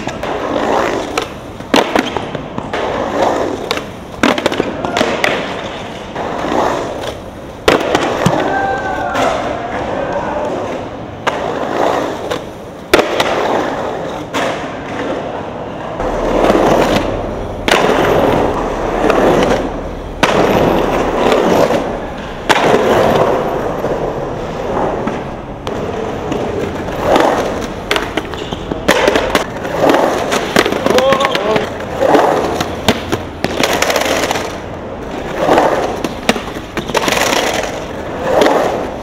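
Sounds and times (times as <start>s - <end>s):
skateboard clacking on concrete: 0.0s - 39.0s
skateboard wheels rolling on concrete: 0.0s - 39.0s.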